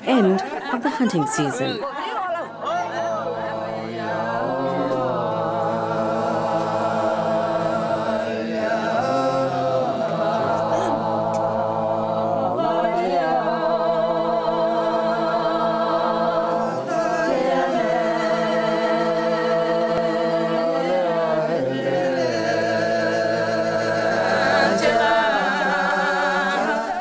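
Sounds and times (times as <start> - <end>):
women singing a cappella: 0.0 - 27.0.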